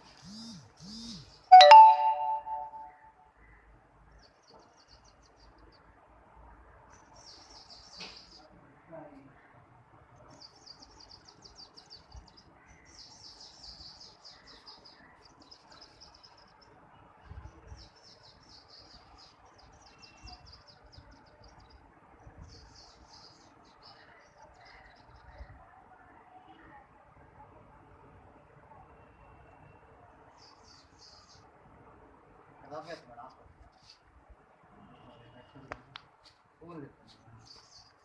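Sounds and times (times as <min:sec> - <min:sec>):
small birds chirping faintly: 0:00.0 - 0:38.0.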